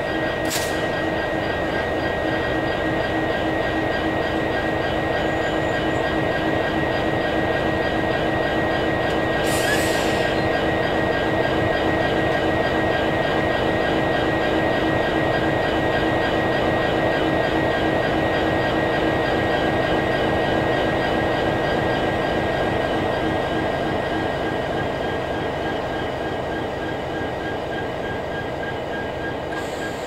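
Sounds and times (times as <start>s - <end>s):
locomotive engine drone: 0.0s - 30.0s.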